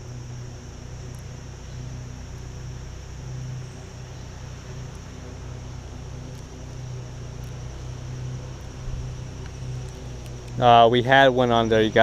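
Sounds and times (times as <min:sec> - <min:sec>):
even hiss: 0:00.0 - 0:12.0
low pulsing rumble: 0:00.0 - 0:12.0.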